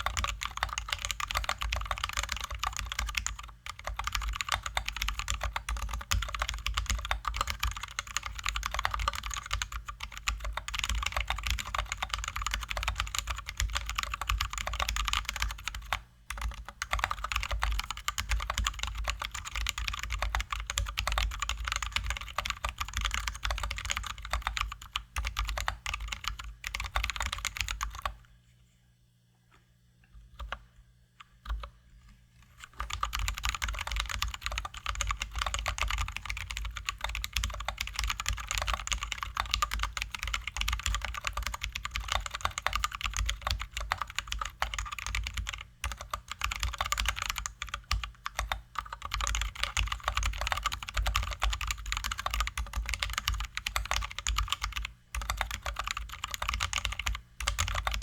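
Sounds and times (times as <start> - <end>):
typing on mechanical keyboard: 0.0 - 28.2, 32.7 - 58.0.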